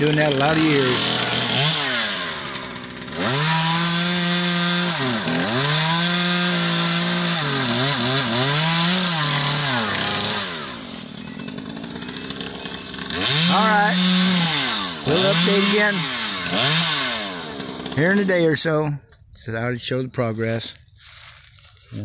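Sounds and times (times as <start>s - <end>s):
chainsaw at full throttle: 0.0s - 18.8s.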